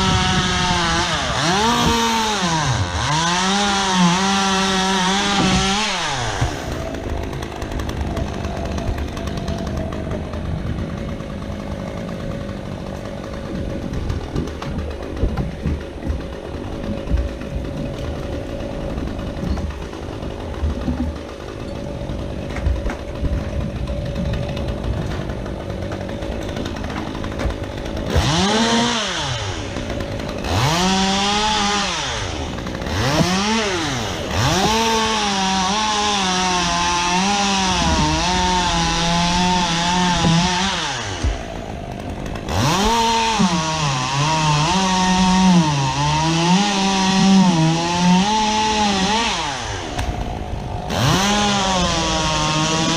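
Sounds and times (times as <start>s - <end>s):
chainsaw revving and cutting: 0.0s - 52.9s.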